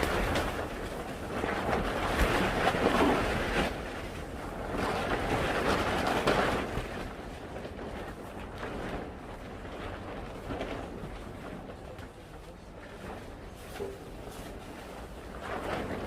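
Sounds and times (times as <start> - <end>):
wind gusts buffeting microphone: 0.0 - 16.0.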